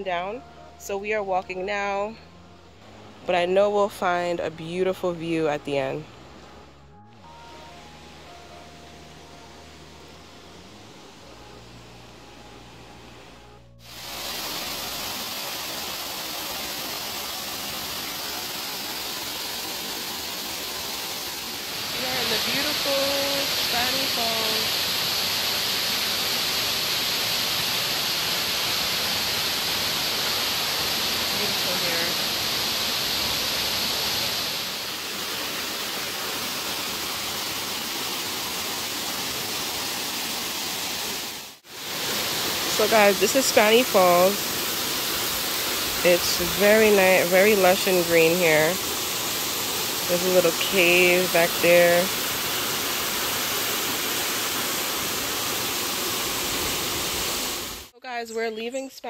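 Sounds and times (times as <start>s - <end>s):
waterfall rushing: 7.3s - 57.9s.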